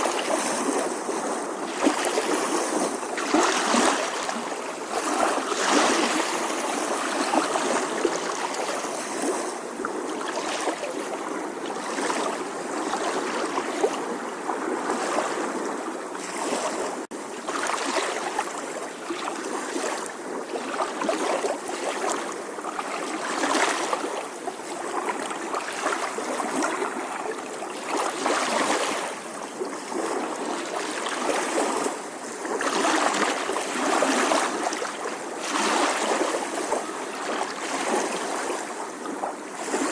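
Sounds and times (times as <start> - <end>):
sea waves lapping on shore: 0.0 - 39.9.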